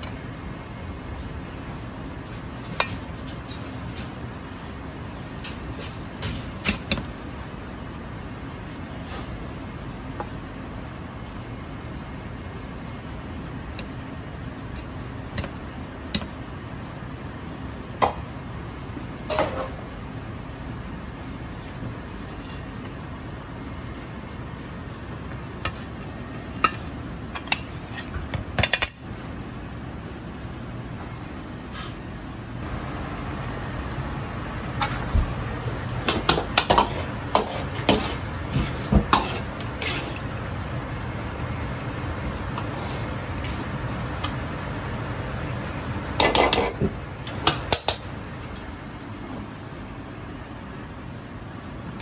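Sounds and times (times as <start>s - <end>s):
low background hum: 0.0s - 52.0s.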